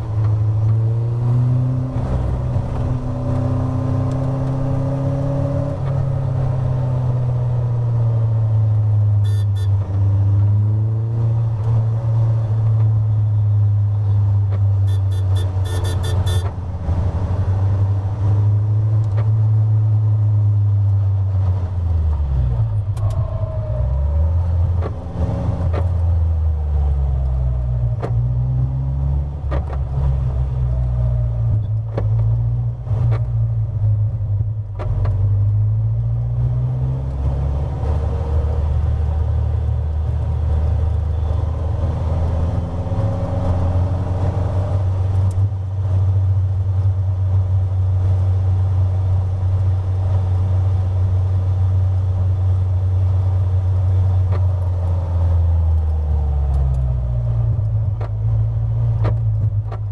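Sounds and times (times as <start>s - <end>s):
car engine low drone: 0.0s - 59.9s.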